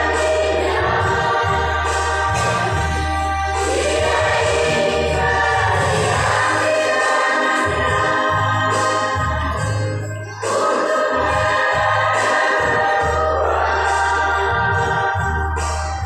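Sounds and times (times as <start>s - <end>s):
low bass notes: 0.0s - 6.8s, 7.7s - 10.4s, 11.2s - 16.0s
choir singing: 0.0s - 16.0s.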